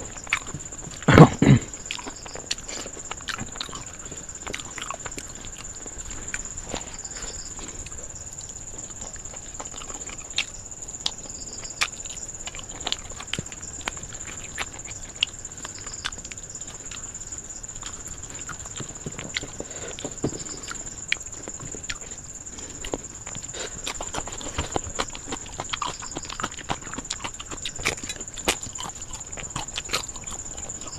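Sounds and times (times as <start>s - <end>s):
wet chewing and lip-smacking: 0.0s - 1.1s, 1.7s - 30.9s.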